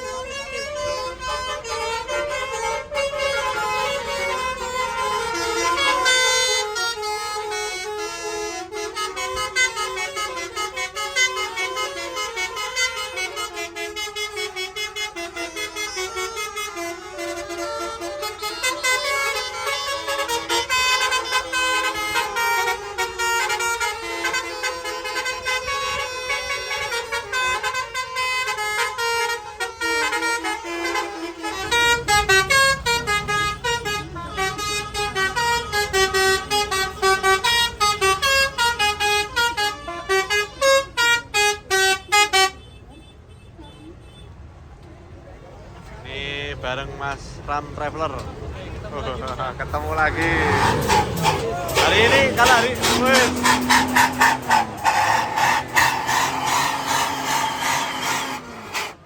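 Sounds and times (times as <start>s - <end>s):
bus air horns playing a melody: 0.0s - 44.6s, 47.8s - 59.0s.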